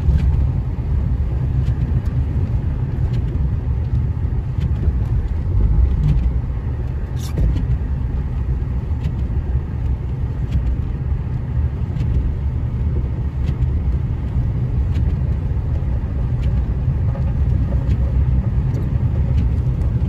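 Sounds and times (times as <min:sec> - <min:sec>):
vehicle driving on snowy road: 0:00.0 - 0:20.0.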